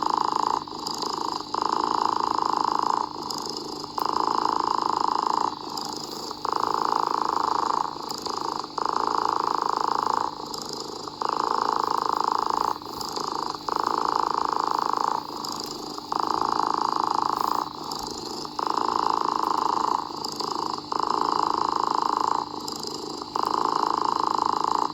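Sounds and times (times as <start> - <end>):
cat purring: 0.0 - 24.9.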